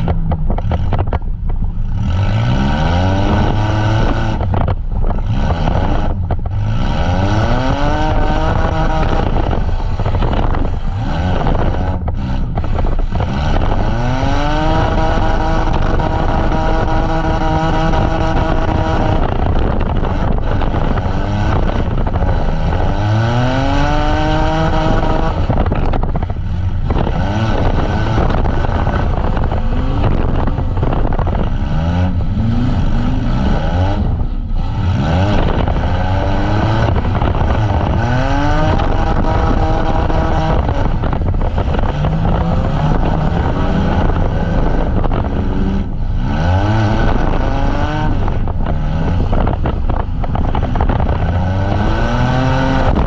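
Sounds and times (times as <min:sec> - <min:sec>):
steady low rumble: 0:00.0 - 0:53.0
van engines revving: 0:00.0 - 0:53.0.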